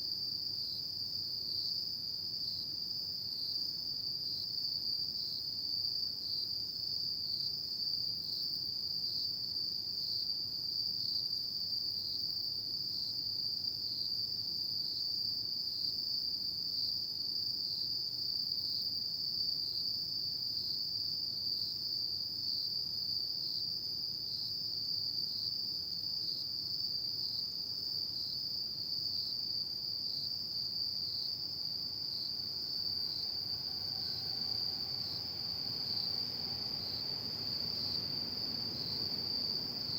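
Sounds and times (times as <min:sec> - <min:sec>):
insects chirping in a high trill: 0:00.1 - 0:39.9.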